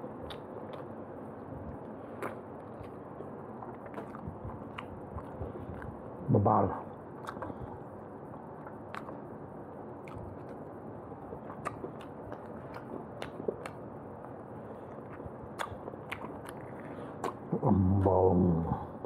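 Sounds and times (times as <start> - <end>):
wet chewing and lip smacks: 0.2 - 6.2, 7.2 - 9.4, 10.0 - 17.6.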